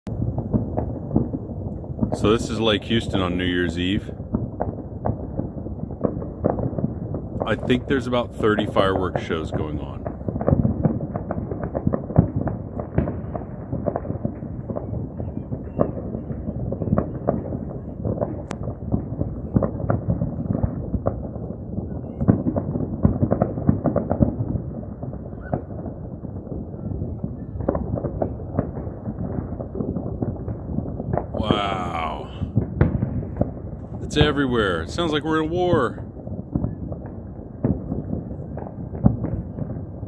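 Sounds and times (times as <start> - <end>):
distant fireworks barrage: 0.1 - 40.0
loud firework booms: 0.1 - 40.0.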